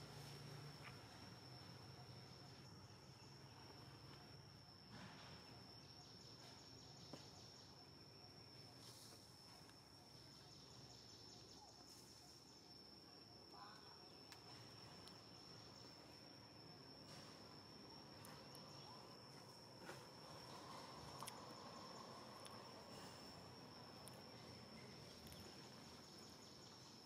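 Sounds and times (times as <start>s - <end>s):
insect high-pitched drone: 0.0s - 27.0s.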